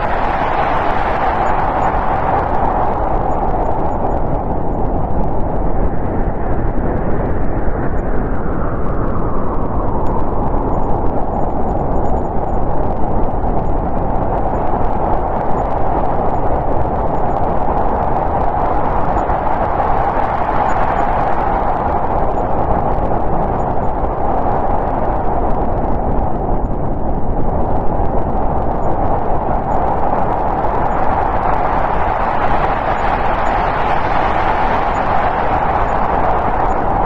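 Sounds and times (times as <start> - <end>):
storm wind blowing: 0.0 - 37.0.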